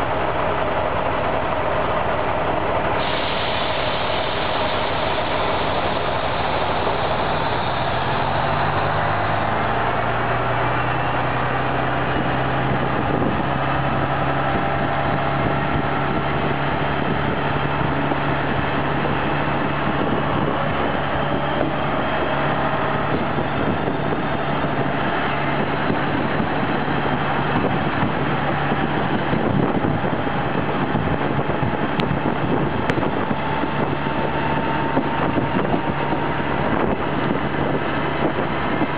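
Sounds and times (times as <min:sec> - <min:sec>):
railcar engine running: 0:00.0 - 0:38.9
wheels rumbling and rattling on rails: 0:00.0 - 0:38.9.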